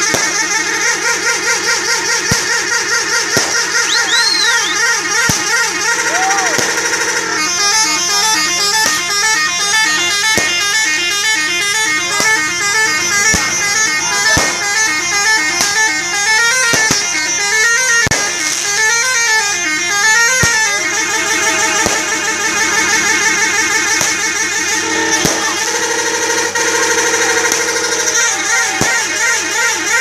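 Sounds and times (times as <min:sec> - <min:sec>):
multi-tone musical bus horn: 0:00.0 - 0:30.0
sharp cracks: 0:00.0 - 0:30.0.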